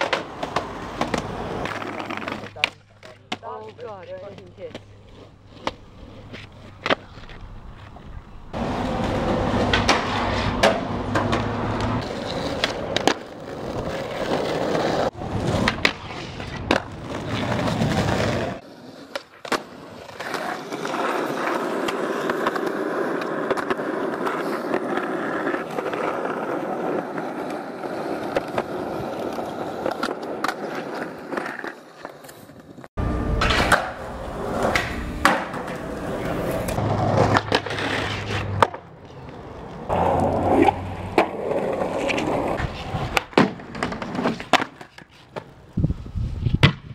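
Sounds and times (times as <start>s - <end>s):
skateboard clacking on ground: 0.0s - 45.8s
skateboard wheels rolling on concrete: 0.0s - 46.9s.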